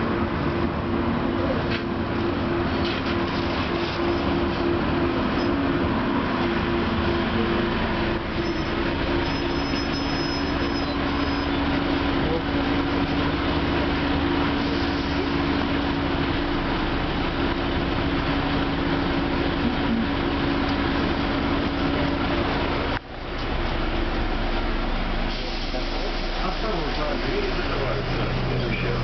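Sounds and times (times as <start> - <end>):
tram wheels on rails: 0.0 - 29.0.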